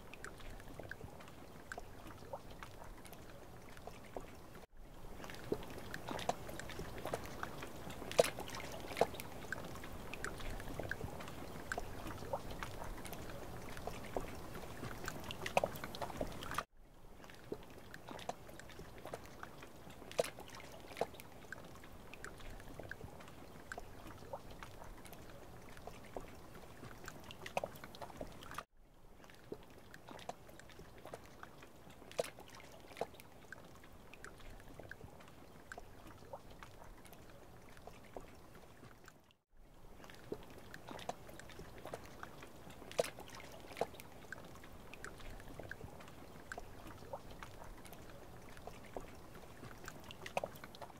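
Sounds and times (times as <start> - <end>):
small clicks and drips: 0.0 - 50.9
water trickling: 0.0 - 50.9.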